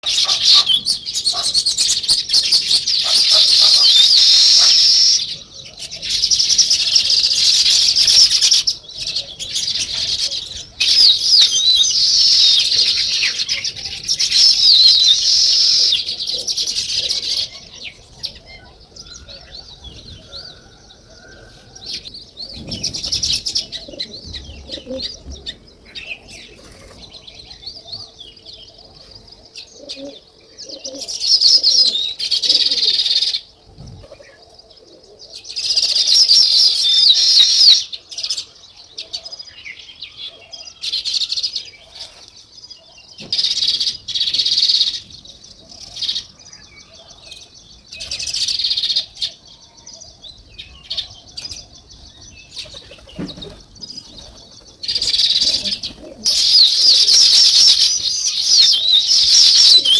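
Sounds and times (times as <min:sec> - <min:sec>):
flock of small birds chirping: 0:00.0 - 0:59.9.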